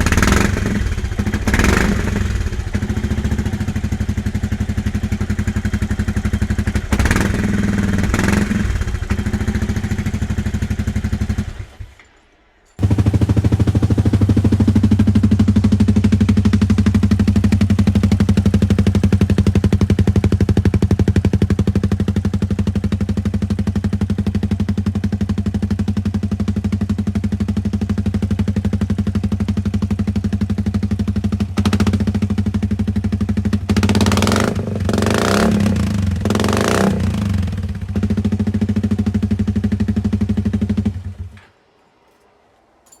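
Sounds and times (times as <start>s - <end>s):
scooter engine idling: 0.0s - 12.0s, 12.8s - 41.4s.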